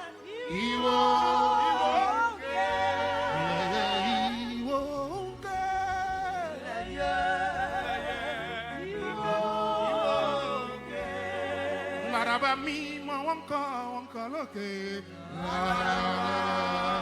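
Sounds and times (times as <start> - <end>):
church choir singing a hymn: 0.0 - 17.0.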